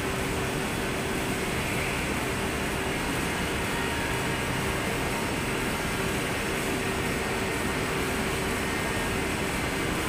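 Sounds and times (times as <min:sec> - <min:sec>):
machinery hum: 0:00.0 - 0:10.0.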